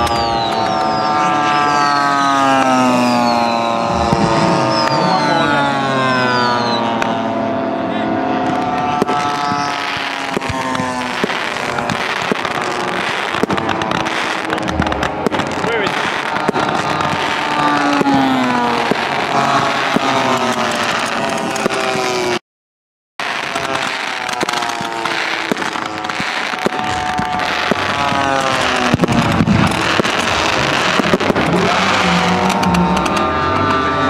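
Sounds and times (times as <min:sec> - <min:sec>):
deep rumble of pyrotechnics: 0:00.0 - 0:22.4, 0:23.2 - 0:34.0
model plane engines flying past: 0:00.0 - 0:22.4, 0:23.4 - 0:34.0
pyrotechnic pops: 0:00.0 - 0:22.4, 0:23.2 - 0:34.0.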